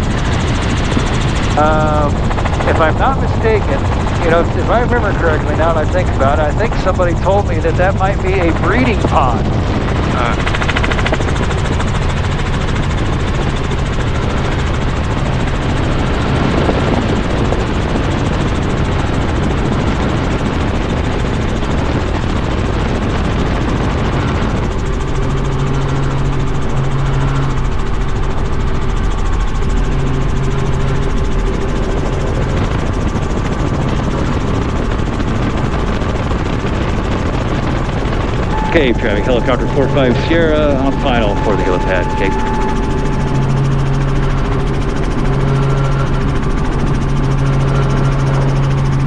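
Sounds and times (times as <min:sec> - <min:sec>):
helicopter rotor and engine drone: 0:00.0 - 0:49.0.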